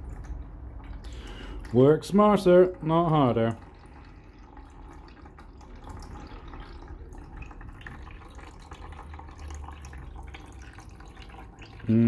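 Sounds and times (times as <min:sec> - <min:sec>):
liquid dripping into pan: 0:00.0 - 0:11.9
coolant trickling and splashing: 0:00.0 - 0:12.0.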